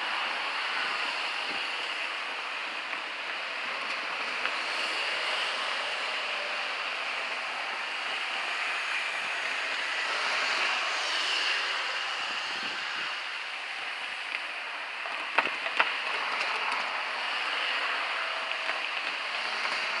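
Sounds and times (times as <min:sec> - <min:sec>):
train rushing along track: 0:00.0 - 0:20.0.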